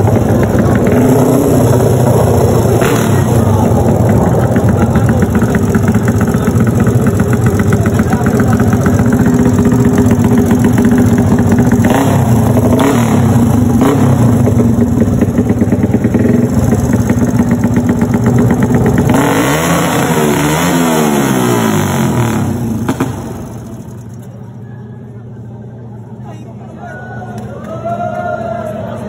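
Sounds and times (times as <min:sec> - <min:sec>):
motorcycle engine revving: 0:00.0 - 0:24.5.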